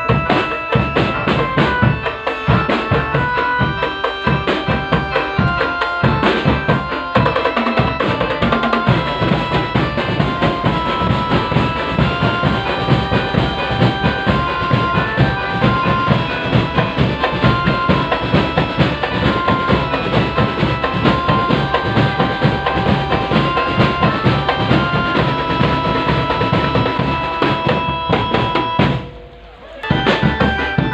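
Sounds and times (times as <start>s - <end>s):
drum band music: 0.0s - 30.9s.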